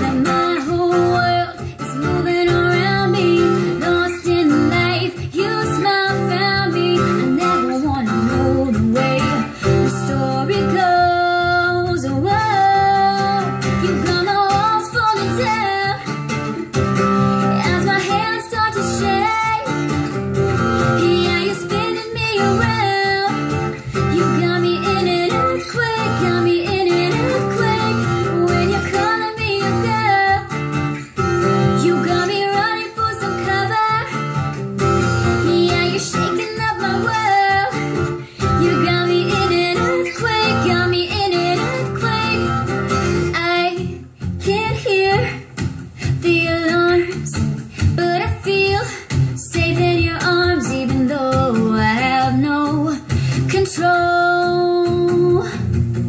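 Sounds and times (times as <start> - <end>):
woman singing: 0.0 - 55.8
acoustic guitar strumming: 0.0 - 56.0.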